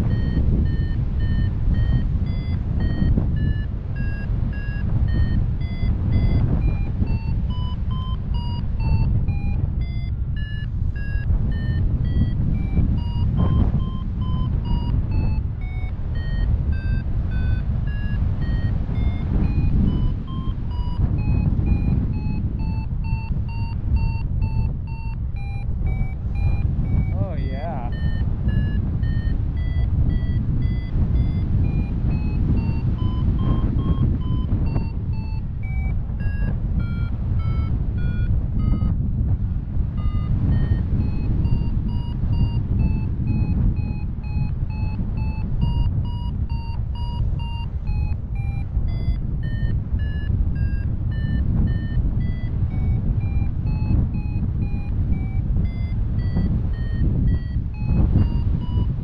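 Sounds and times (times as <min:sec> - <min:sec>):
variometer beeping: 0:00.0 - 0:59.0
wind rush on microphone: 0:00.0 - 0:59.0.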